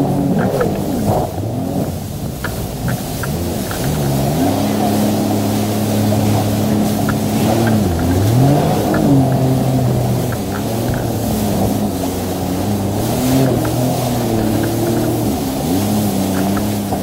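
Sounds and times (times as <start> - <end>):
jet ski engine running: 0.0 - 17.0
water rushing and spray: 0.0 - 17.0.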